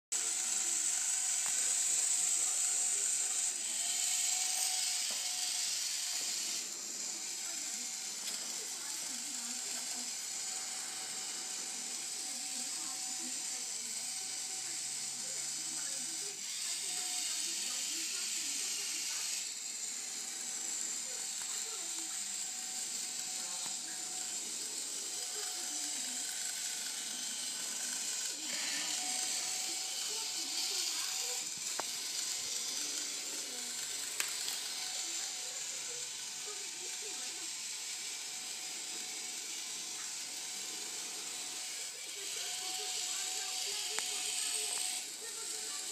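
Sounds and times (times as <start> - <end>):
small robot motors whirring: 0.1 - 45.9.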